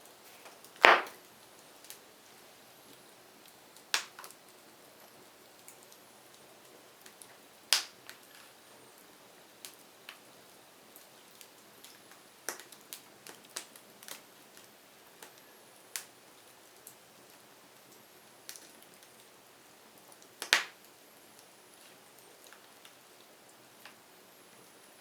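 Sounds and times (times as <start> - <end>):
faint steady hiss: 0.0 - 25.0
firewood crackling and popping: 0.1 - 25.0.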